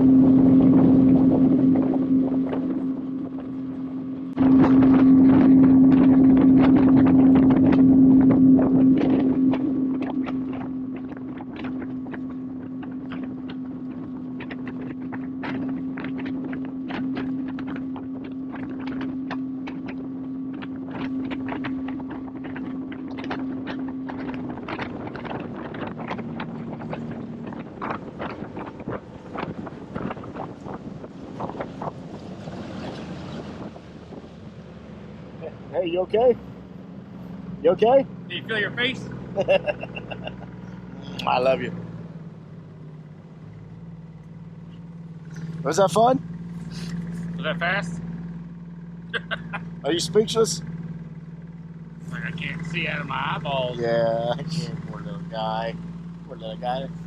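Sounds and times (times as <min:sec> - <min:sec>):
motorboat engine running: 0:00.0 - 0:57.0.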